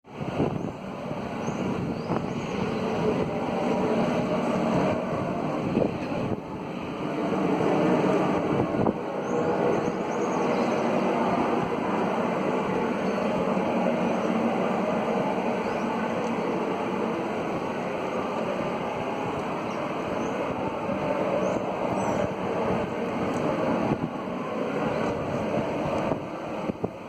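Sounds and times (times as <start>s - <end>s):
loud rushing industrial noise: 0.0s - 27.0s.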